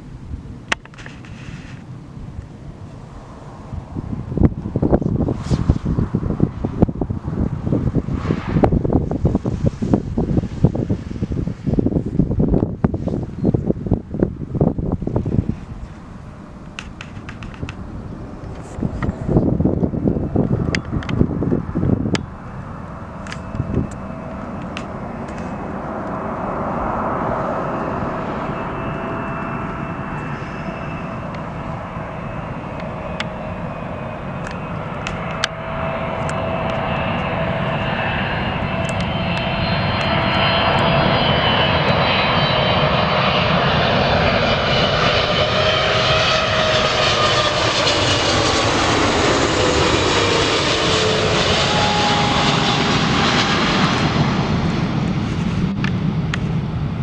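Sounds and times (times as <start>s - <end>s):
jet airliner engines passing: 0.0s - 57.0s.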